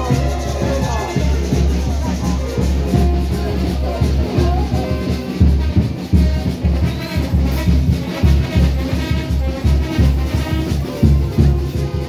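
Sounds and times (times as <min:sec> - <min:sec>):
bass drum beat: 0:00.0 - 0:12.0
brass band music: 0:00.0 - 0:12.0.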